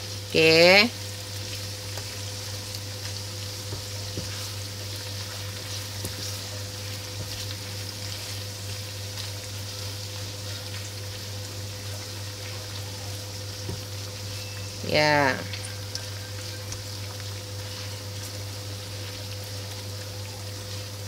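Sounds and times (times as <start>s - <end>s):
eggplant sizzling in hot oil: 0.0s - 21.0s.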